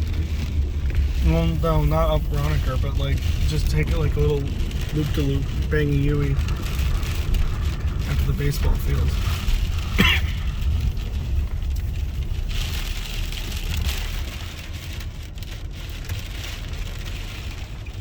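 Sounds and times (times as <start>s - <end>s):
road noise rumble: 0.0s - 18.0s
storm wind howling around car: 0.0s - 18.0s.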